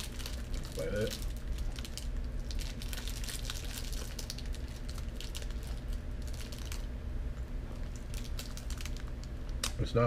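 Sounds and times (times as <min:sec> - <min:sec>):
plastic wrapper crinkling: 0:00.0 - 0:09.8
steady low hum: 0:00.0 - 0:10.0.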